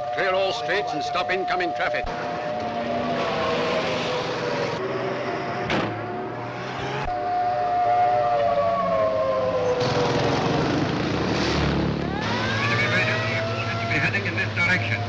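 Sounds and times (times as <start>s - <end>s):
air-raid siren wailing: 0.0s - 15.0s
rushing background noise: 0.0s - 15.0s.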